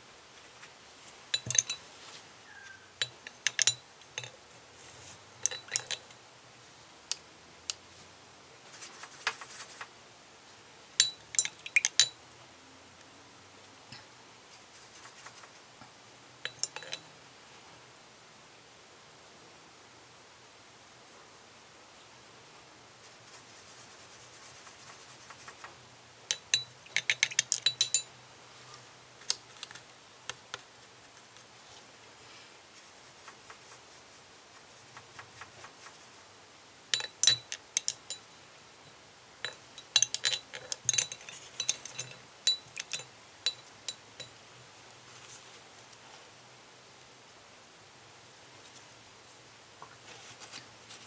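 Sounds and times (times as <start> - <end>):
faint hiss: 0.0 - 51.0.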